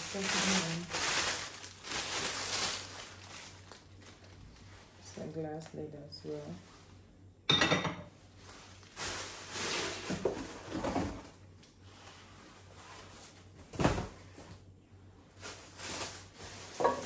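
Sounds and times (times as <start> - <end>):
cardboard and plastic rustling: 0.0 - 5.9, 8.3 - 14.6, 15.3 - 17.0.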